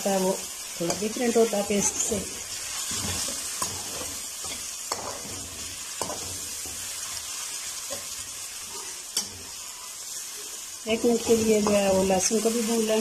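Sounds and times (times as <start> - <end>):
onion sizzling in hot oil: 0.0 - 13.0
metal spatula scraping a pan: 0.8 - 12.6.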